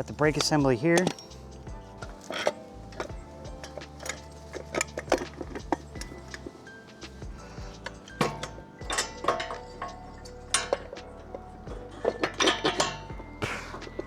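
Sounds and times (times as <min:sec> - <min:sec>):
metal parts clinking: 0:00.0 - 0:14.0.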